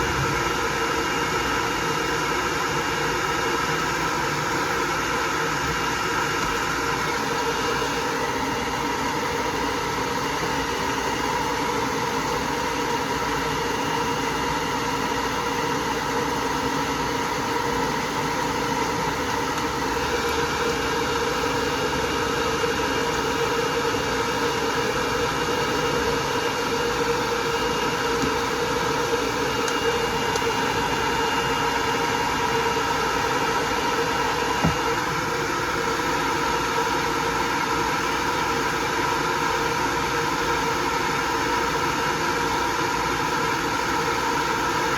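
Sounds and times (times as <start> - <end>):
hair dryer blowing: 0.0 - 44.9.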